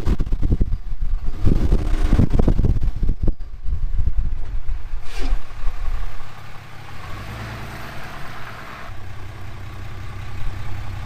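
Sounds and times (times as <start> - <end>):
pickup truck engine running: 0.0 - 11.0.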